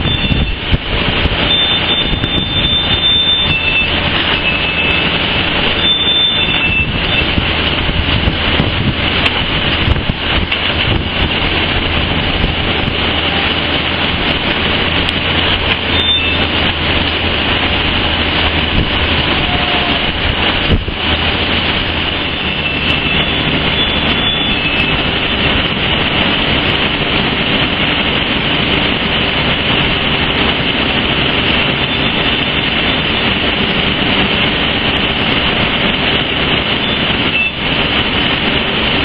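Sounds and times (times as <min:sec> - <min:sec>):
loud rushing steam: 0:00.0 - 0:39.0.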